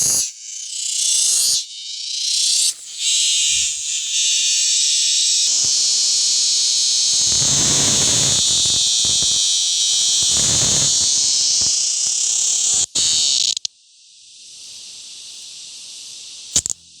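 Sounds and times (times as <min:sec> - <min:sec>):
cicada buzzing shrilly: 0:00.0 - 0:17.0.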